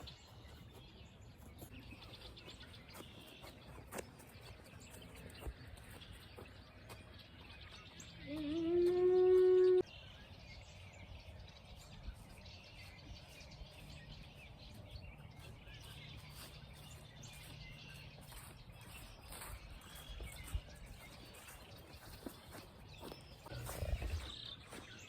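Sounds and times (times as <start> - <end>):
small bird chirps: 0.0 - 25.0.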